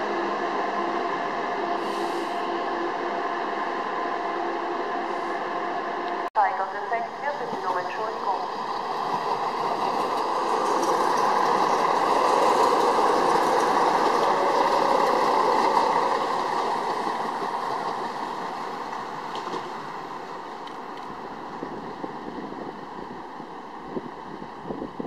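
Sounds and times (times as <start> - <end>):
diesel railcar passing: 0.0 - 25.0.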